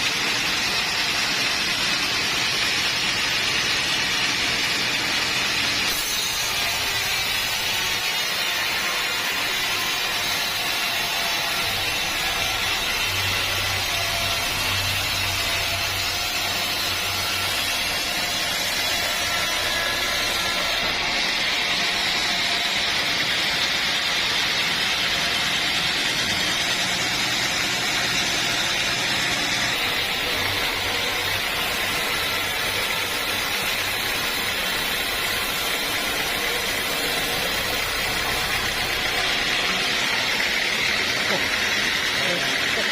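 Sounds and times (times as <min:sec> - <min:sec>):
sawmill saw running: 0:00.0 - 0:42.9.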